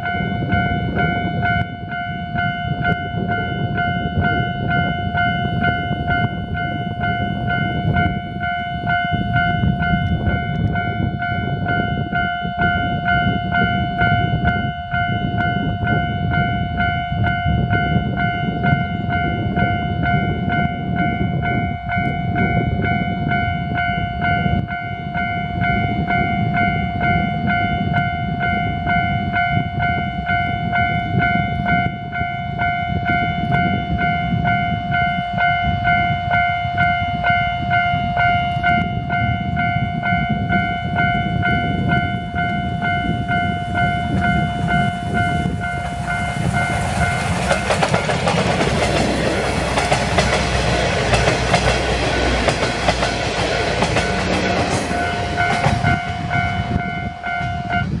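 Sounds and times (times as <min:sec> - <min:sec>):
level-crossing bell ringing: 0:00.0 - 0:58.0
steam locomotive passing: 0:00.0 - 0:58.0.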